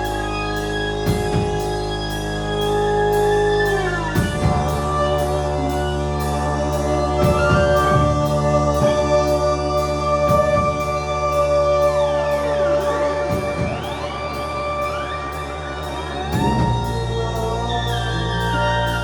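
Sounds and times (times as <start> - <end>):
gliding synthesizer tones: 0.0 - 19.0
low bass note: 0.0 - 19.0
organ and keyboard chords: 0.0 - 19.0.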